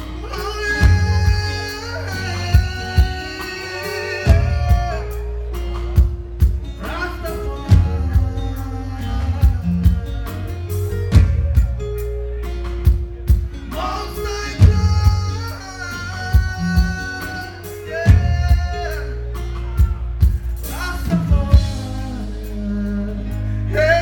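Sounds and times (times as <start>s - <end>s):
person singing: 0.0s - 11.8s, 13.7s - 24.0s
reggae band playing: 0.0s - 24.0s.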